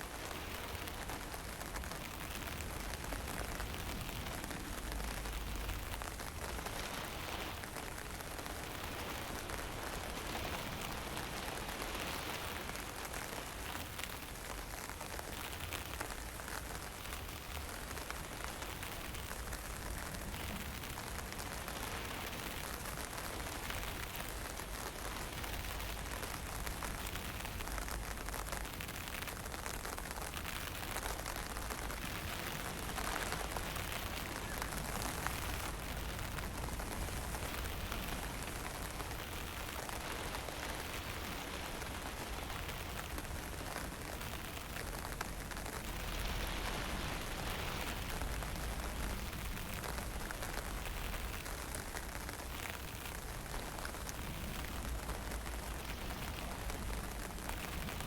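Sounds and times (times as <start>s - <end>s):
wind: 0.0s - 58.0s
wind rumble on microphone: 0.0s - 58.0s.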